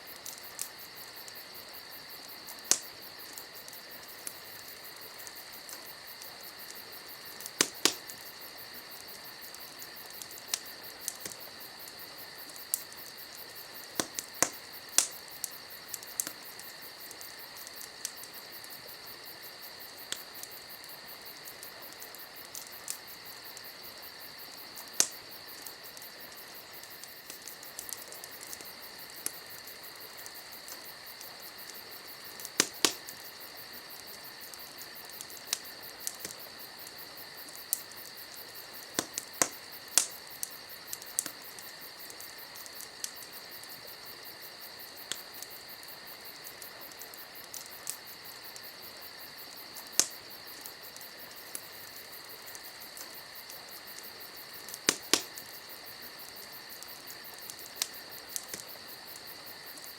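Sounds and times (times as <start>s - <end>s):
campfire crackling and popping: 0.0s - 59.9s
insects chirring: 0.0s - 59.9s.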